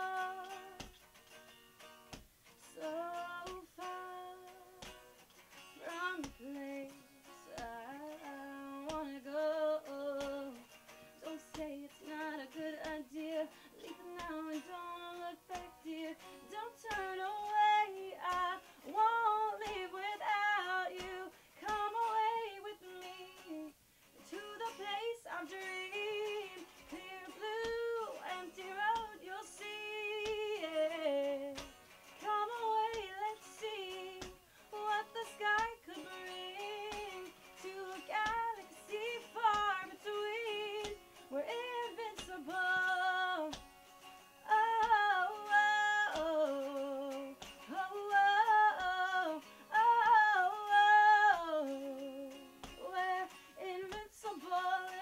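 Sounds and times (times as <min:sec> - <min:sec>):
woman singing: 0:00.0 - 0:01.0, 0:02.6 - 0:05.0, 0:05.8 - 0:43.7, 0:44.4 - 0:55.0
electric guitar: 0:00.0 - 0:55.0.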